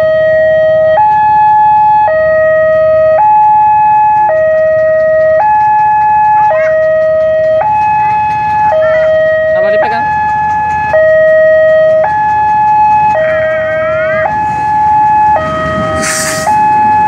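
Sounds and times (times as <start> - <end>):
road traffic rumble: 0.0 - 17.0
two-tone crossing alarm: 0.0 - 17.0.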